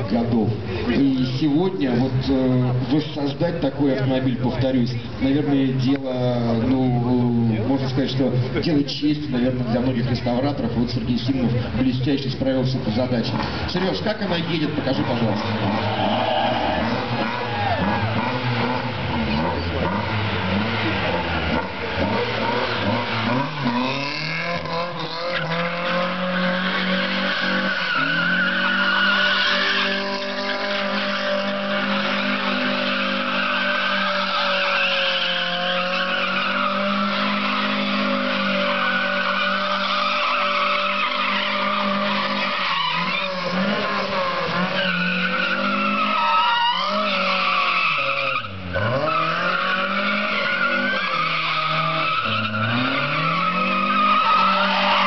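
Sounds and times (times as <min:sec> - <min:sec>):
rally car engine revving: 0:00.0 - 0:55.0
tyres squealing on asphalt: 0:00.0 - 0:55.0.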